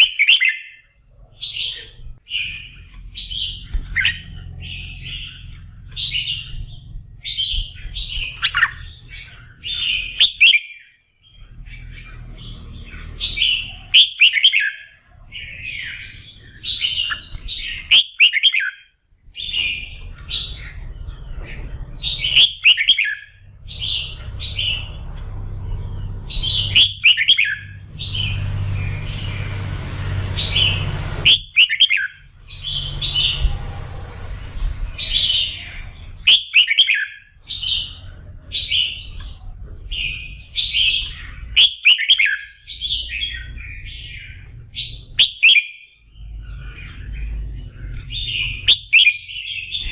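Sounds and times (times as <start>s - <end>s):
low background hum: 0.0s - 10.4s, 18.9s - 49.9s
bird warbling song: 0.0s - 49.9s.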